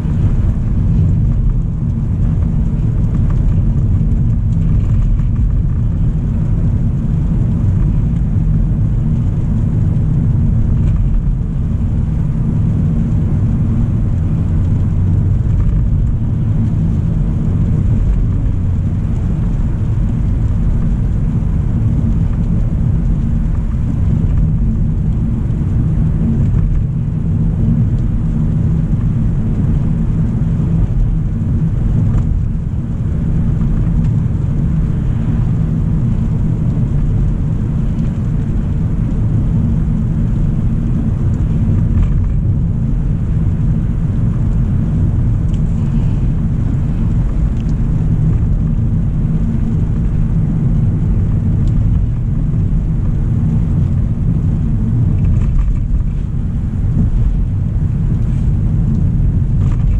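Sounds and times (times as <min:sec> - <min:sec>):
car driving on wet road: 0:00.0 - 0:59.9.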